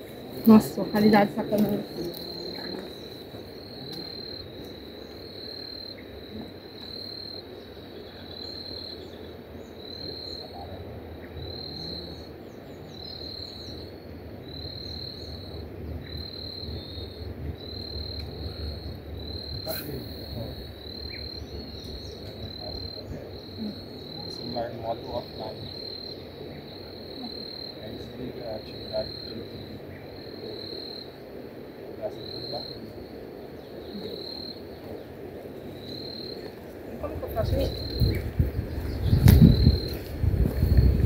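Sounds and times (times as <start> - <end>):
insect chirping: 0.0 - 41.0.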